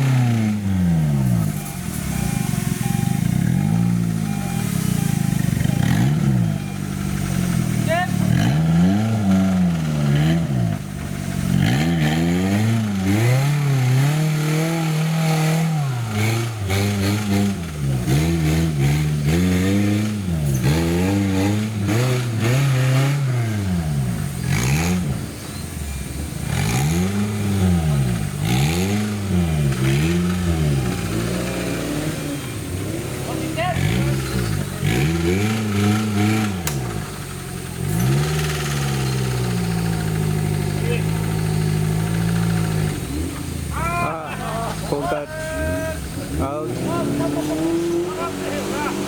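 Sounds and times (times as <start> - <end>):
engine revving in throttle blips: 0.0 - 49.0.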